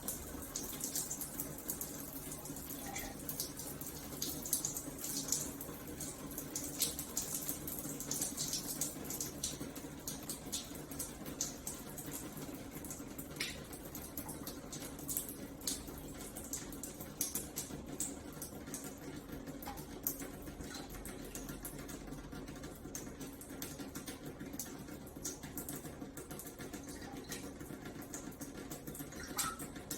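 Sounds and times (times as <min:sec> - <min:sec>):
water splatters and drips: 0:00.0 - 0:29.9.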